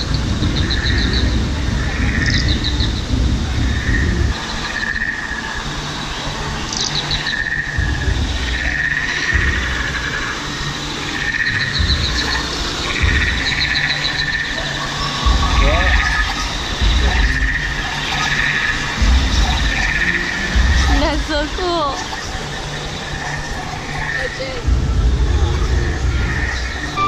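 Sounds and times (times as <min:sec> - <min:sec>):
low rumble: 0:00.0 - 0:04.8, 0:07.4 - 0:24.0, 0:24.6 - 0:27.0
chirping trills: 0:00.0 - 0:27.0.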